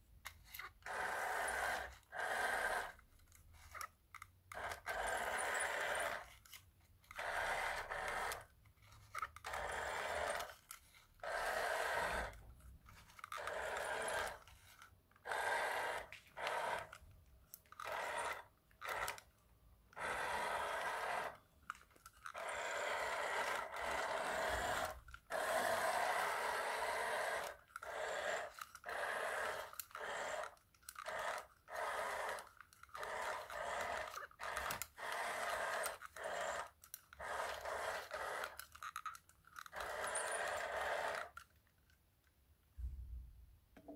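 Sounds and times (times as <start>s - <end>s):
toy car motor whirring: 0.2s - 42.0s.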